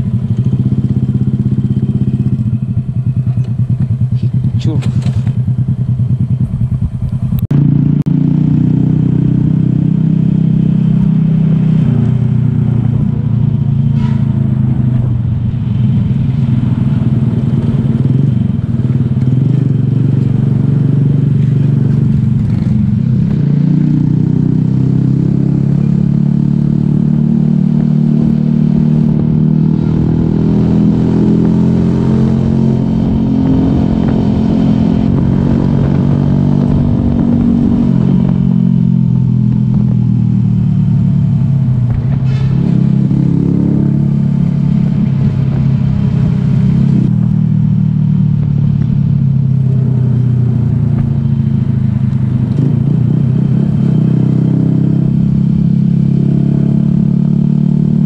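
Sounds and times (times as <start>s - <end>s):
small motorcycle engine revving: 0.0s - 58.0s.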